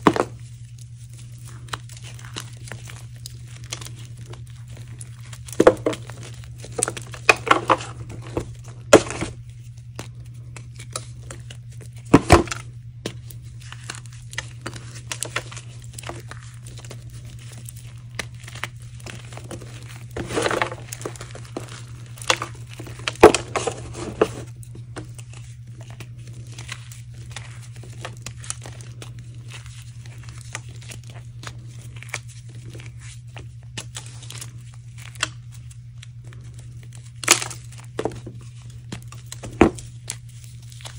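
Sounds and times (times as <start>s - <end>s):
hands crushing dry chalk: 0.0s - 40.9s
steady low hum: 0.0s - 40.9s.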